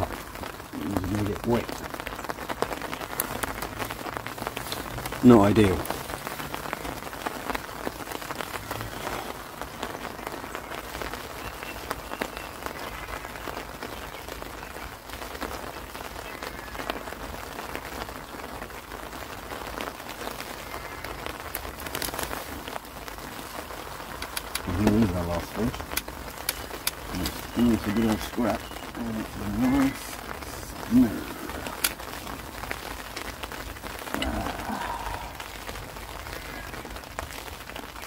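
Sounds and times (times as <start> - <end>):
heavy rain on fabric umbrella: 0.0 - 38.0
rain on pond: 0.0 - 38.0.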